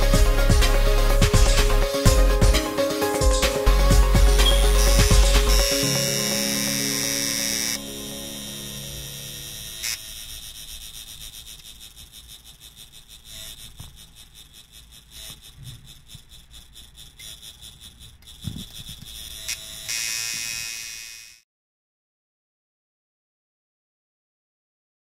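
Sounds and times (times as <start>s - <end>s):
tattoo machine buzzing: 0.0s - 21.4s.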